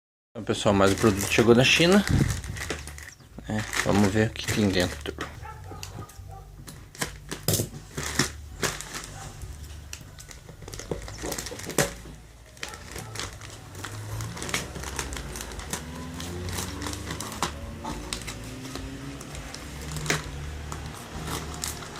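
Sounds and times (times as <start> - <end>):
packaging crinkling and rustling: 0.5 - 21.9.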